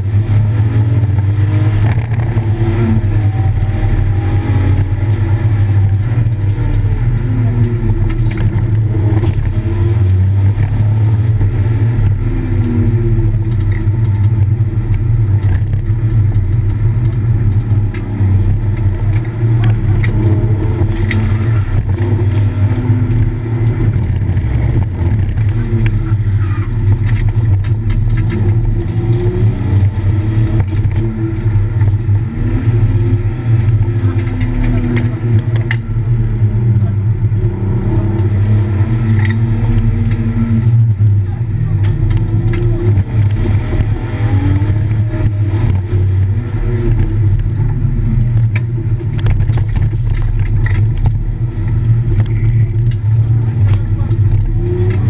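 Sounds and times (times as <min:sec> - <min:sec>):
car engine revving: 0:00.0 - 0:55.0
clicks and rattles: 0:00.9 - 0:55.0.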